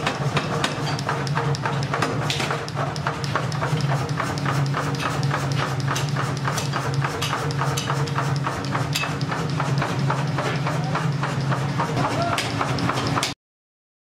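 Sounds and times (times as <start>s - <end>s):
machine drive hum: 0.0s - 13.4s
power hammer striking metal: 0.0s - 13.4s.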